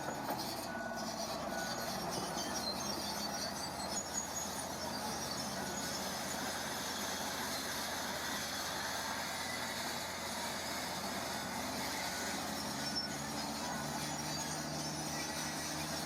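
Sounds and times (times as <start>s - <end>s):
heavy machinery running: 0.0s - 16.0s
low steady engine note: 0.0s - 16.0s.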